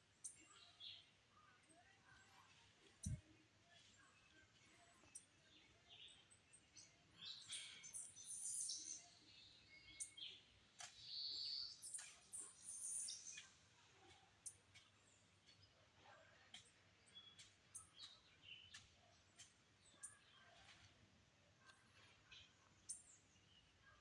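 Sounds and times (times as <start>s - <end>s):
faint bird chirps and twitters: 0.0s - 24.0s.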